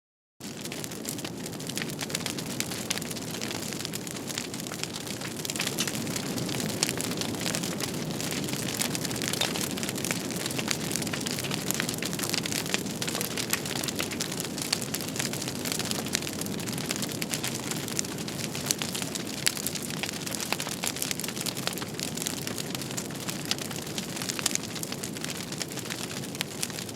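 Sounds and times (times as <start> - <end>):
wood fire crackling: 0.4 - 26.9.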